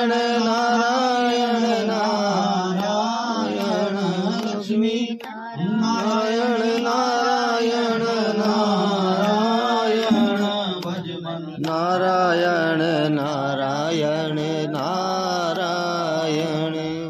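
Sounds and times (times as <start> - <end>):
person chanting a mantra: 0.0 - 17.0.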